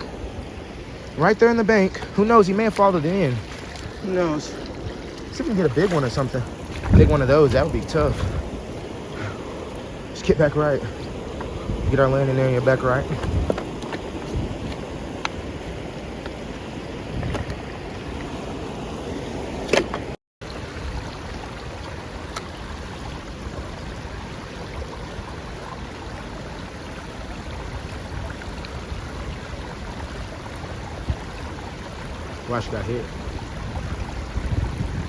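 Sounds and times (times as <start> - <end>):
moving water: 0.0 - 35.0
wind: 0.0 - 35.0.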